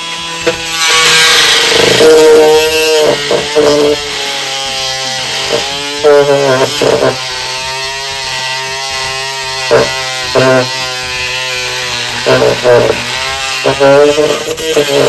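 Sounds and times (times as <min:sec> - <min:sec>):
oscillating multi-tool buzzing: 0:00.0 - 0:15.0
blade grinding into metal screw: 0:00.1 - 0:07.7, 0:09.0 - 0:15.0.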